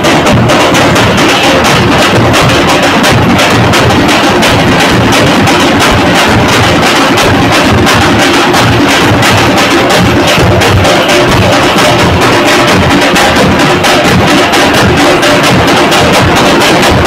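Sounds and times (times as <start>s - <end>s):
fast live drumming with sticks: 0.0s - 17.0s.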